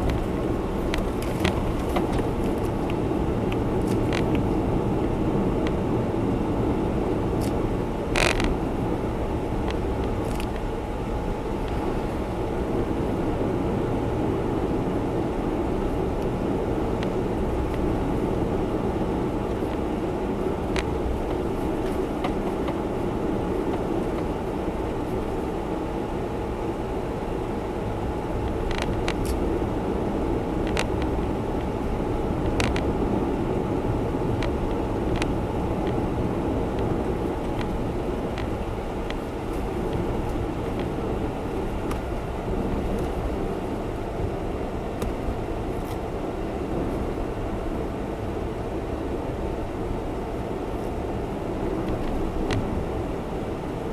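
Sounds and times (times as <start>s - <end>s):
road and engine noise in car: 0.0s - 53.9s.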